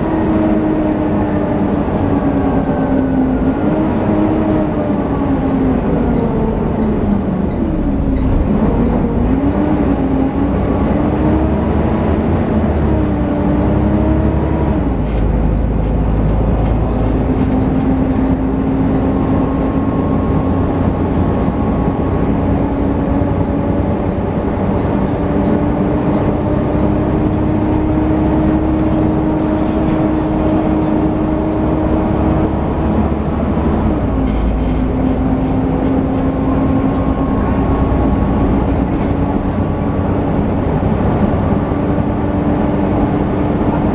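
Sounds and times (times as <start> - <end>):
bus engine cooling fan whine: 0.0 - 43.9.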